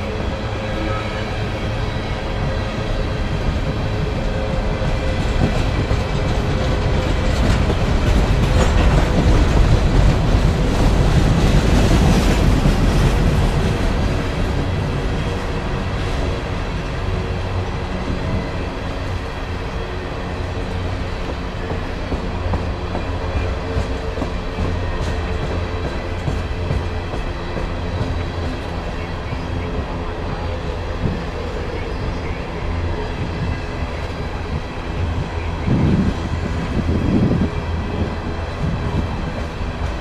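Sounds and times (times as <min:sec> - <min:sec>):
rumble of train wheels: 0:00.0 - 0:40.0.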